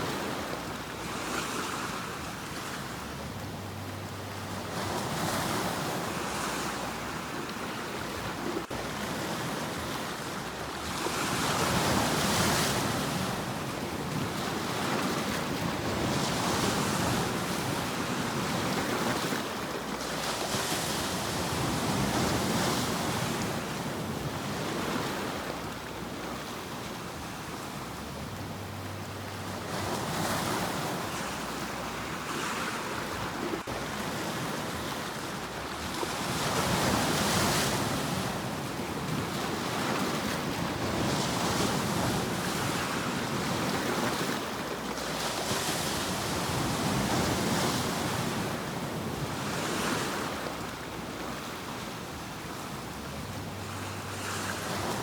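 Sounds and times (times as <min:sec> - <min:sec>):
sea waves surf: 0:00.0 - 0:55.0.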